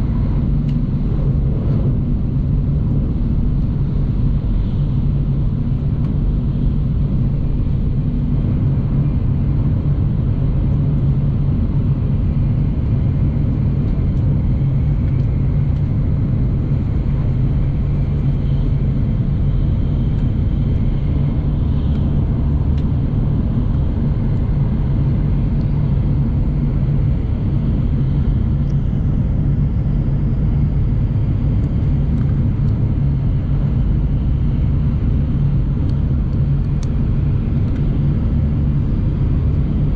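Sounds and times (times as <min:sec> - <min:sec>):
train rumbling inside cabin: 0:00.0 - 0:39.9.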